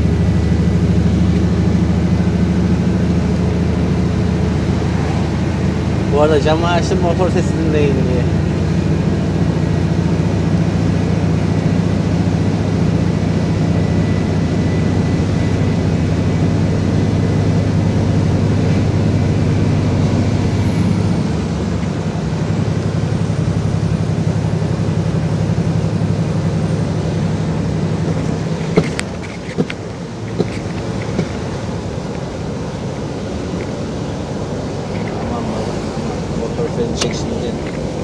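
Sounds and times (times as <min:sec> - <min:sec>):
diesel truck engine running: 0:00.0 - 0:38.0
road noise: 0:00.0 - 0:38.0.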